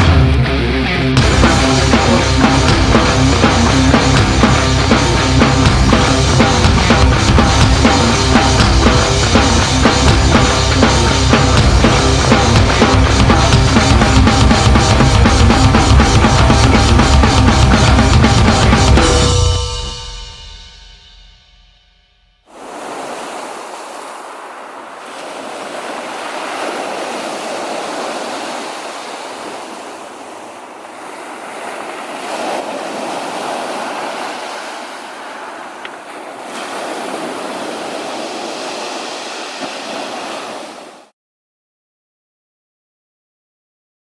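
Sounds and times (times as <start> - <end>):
waves washing on shore: 1.2 - 19.4, 22.5 - 41.1.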